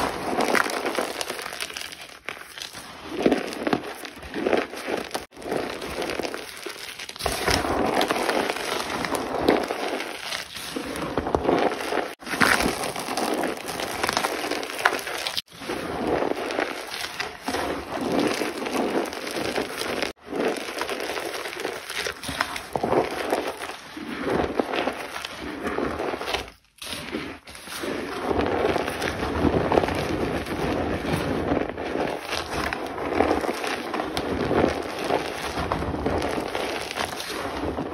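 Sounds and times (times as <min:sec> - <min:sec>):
chalk being crushed: 0:00.0 - 0:37.9.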